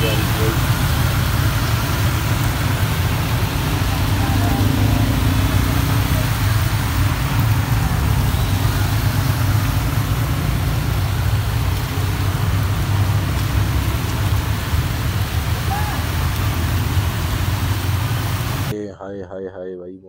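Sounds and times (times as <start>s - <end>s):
vehicle engines running: 0.0s - 18.7s.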